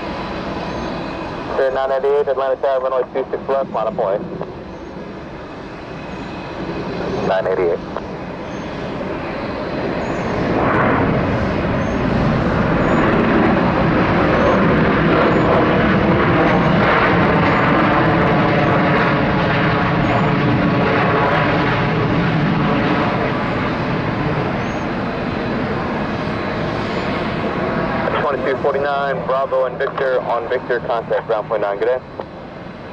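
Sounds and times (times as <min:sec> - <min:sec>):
jet engines whining: 0:00.0 - 0:32.9.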